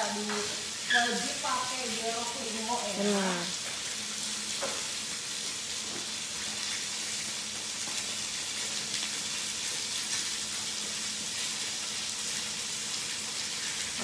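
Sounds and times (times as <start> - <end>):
oil sizzling in a frying pan: 0.0 - 14.0.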